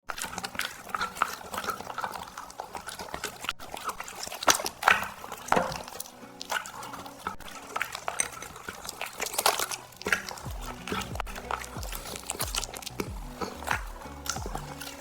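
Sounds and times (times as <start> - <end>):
dog chewing with wet smacks: 0.0 - 15.0.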